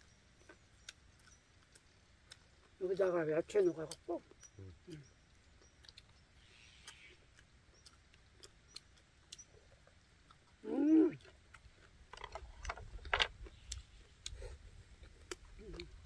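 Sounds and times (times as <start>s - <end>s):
chewing and crunching: 0.0s - 16.0s.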